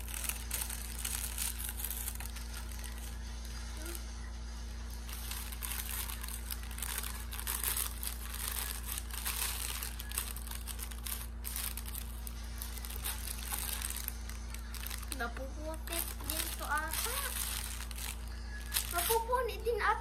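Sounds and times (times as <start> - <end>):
plastic packaging crinkling: 0.0 - 3.2, 4.9 - 19.5.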